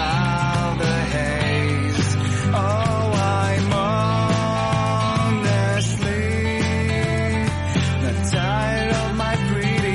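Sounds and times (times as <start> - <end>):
pop song with steady beat: 0.0 - 9.9.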